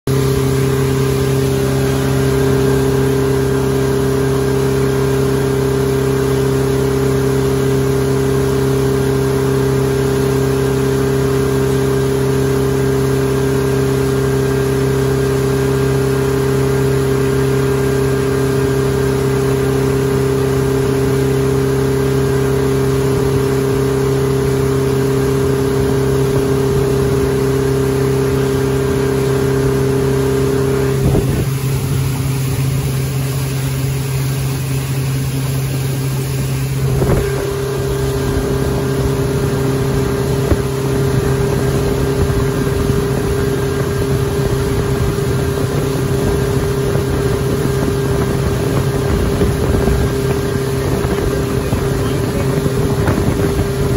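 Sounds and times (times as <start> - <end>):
motorboat engine droning: 0.1 - 53.9
wake water rushing: 0.1 - 53.9
wind: 0.1 - 53.9.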